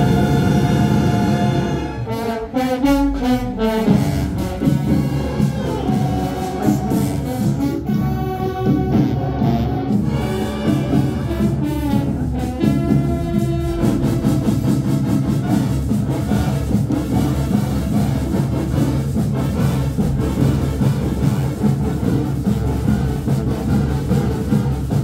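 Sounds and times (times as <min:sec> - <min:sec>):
brass notes: 0:00.0 - 0:25.0
steady drum beat: 0:03.0 - 0:25.0.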